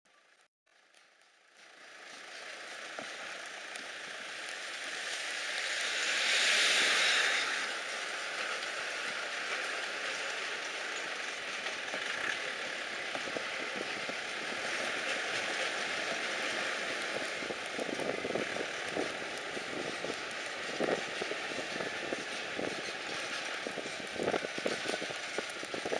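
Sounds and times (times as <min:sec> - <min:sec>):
vehicle road noise: 0:01.4 - 0:25.9.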